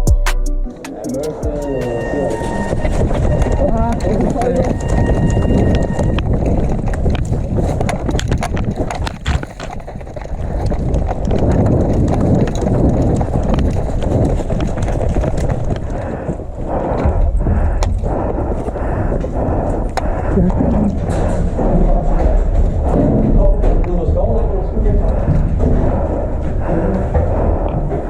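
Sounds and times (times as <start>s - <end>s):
running footsteps: 0.9s - 28.0s
steady rumbling noise: 0.9s - 28.0s.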